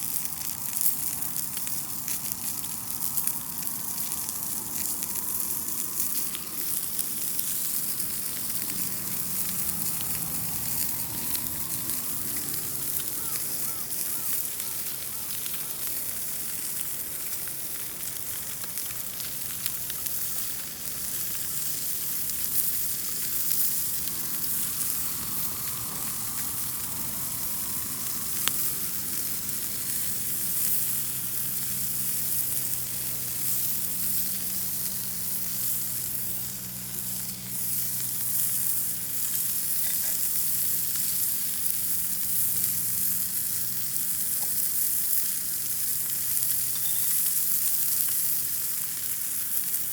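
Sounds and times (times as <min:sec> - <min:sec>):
meat sizzling in a pan: 0:00.0 - 0:49.9.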